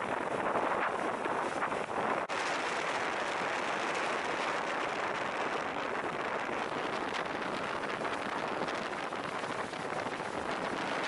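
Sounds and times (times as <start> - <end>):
water rushing past boat: 0.0 - 11.0
wind rushing: 0.0 - 11.0.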